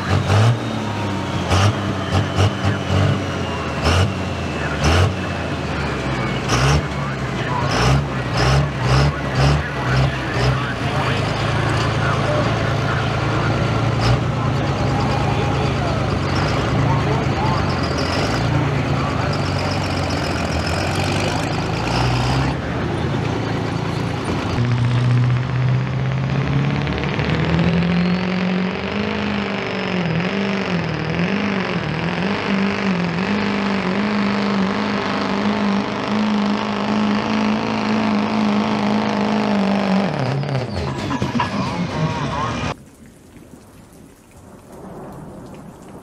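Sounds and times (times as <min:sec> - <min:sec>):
diesel truck engines at full throttle: 0:00.0 - 0:42.8.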